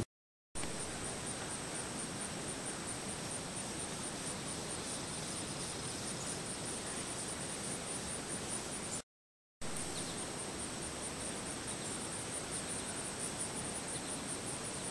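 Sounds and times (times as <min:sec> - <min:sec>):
high insect trill: 0:00.6 - 0:09.0, 0:09.6 - 0:14.9
steady outdoor hiss: 0:00.6 - 0:09.0, 0:09.6 - 0:14.9.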